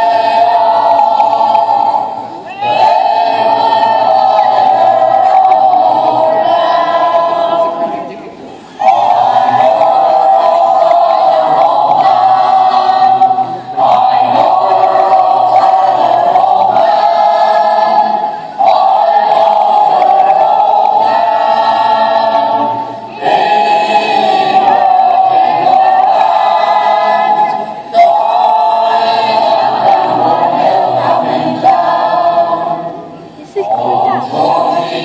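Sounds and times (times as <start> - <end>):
choir singing long chords: 0.0 - 35.0.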